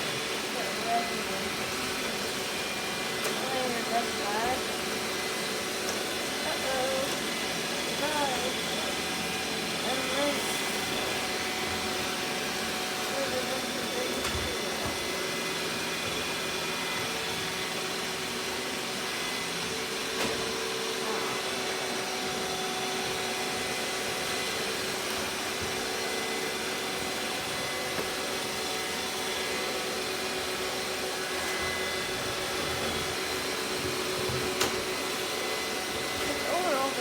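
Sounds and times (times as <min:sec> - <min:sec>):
robot vacuum cleaner whirring: 0:00.0 - 0:37.0.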